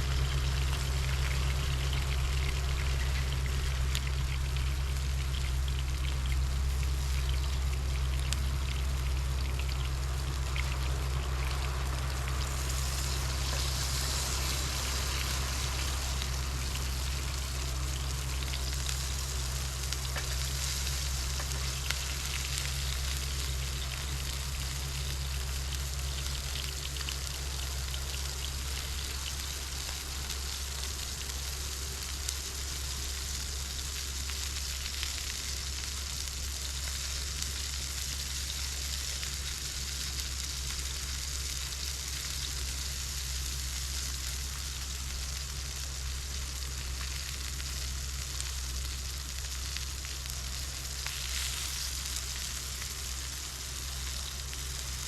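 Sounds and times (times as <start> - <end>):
food sizzling in a pan: 0.0 - 55.0
low hum: 0.0 - 55.0.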